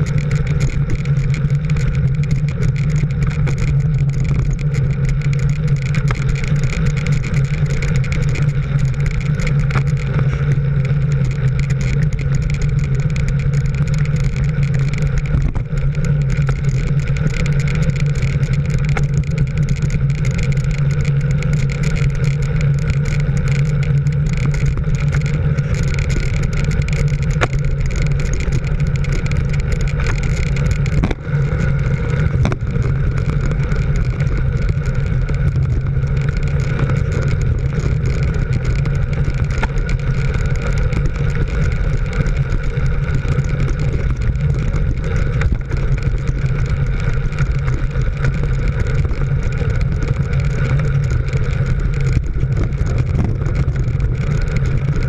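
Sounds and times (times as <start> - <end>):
vehicle engine drone: 0.0 - 55.0
wind and road rush: 0.0 - 55.0.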